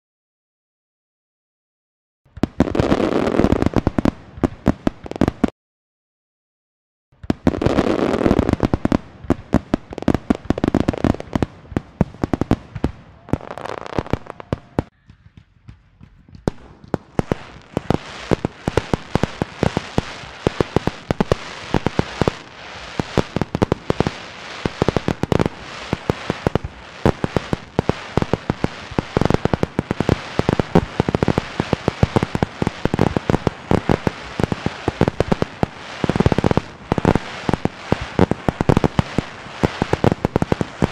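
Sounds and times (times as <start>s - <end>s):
fireworks bangs and crackles: 2.3s - 5.5s, 7.2s - 40.9s.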